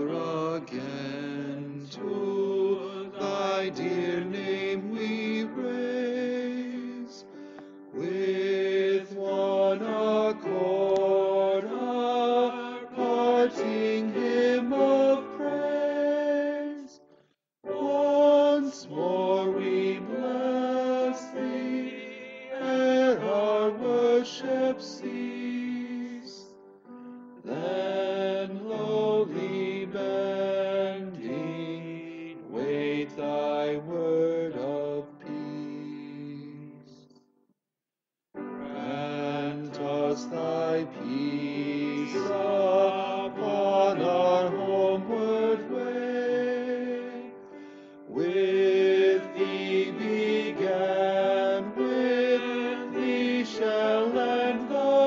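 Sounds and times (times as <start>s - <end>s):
slow hymn singing: 0.0s - 37.3s, 38.5s - 55.0s.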